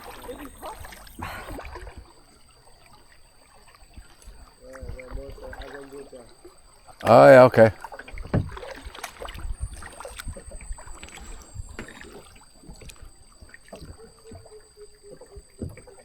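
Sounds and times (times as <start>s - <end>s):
paddle splashing water: 0.0s - 16.0s.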